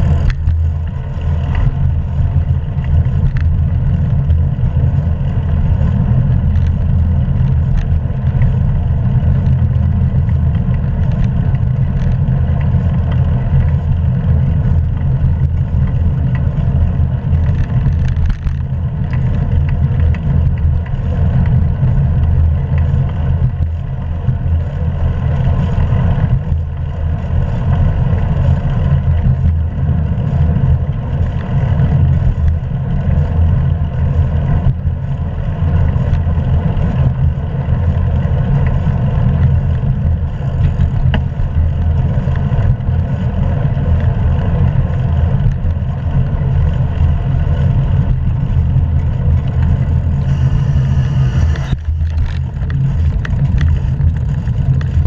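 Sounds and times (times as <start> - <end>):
bicycle clicks and rattles: 0.0 - 55.0
wind buffeting microphone: 0.0 - 55.0.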